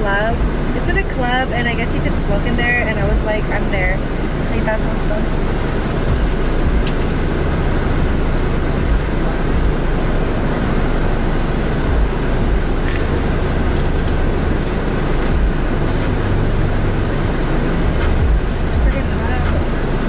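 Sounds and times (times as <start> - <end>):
car road and engine noise: 0.0 - 20.0
low hum: 0.0 - 20.0.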